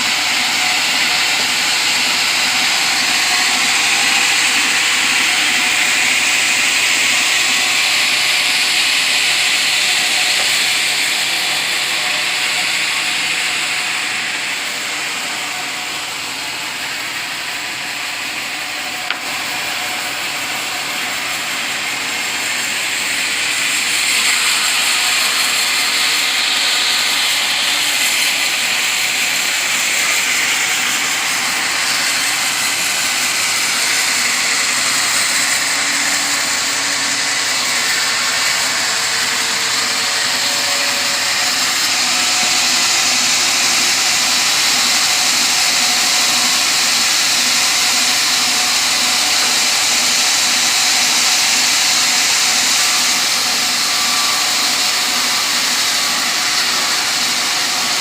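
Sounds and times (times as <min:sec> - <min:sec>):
sawmill saw cutting timber: 0:00.0 - 0:58.0.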